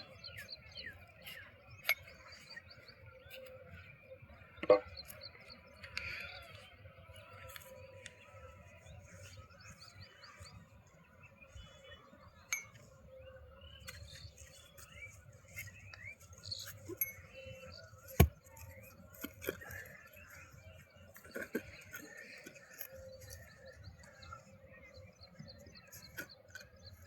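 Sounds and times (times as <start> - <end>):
faint bird chirping: 0.0 - 27.0.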